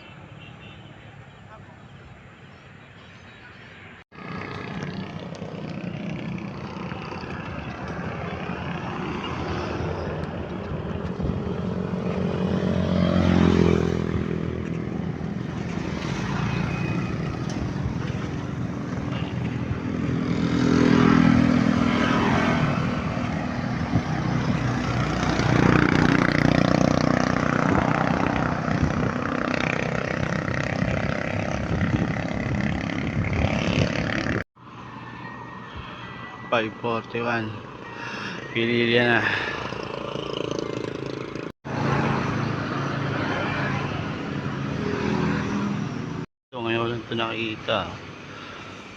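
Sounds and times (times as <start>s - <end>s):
vehicles passing by: 0.0s - 48.9s
wind and road noise: 0.0s - 48.9s.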